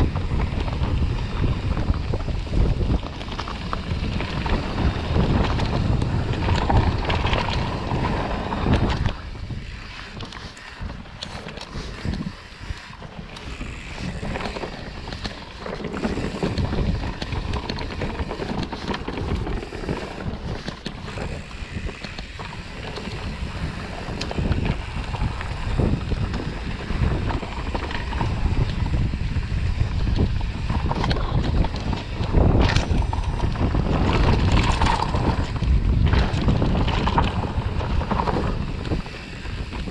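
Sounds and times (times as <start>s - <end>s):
bike rattling and knocking: 0.0s - 39.9s
tyres rolling on dirt trail: 0.0s - 39.9s
wind buffeting microphone: 0.0s - 39.9s.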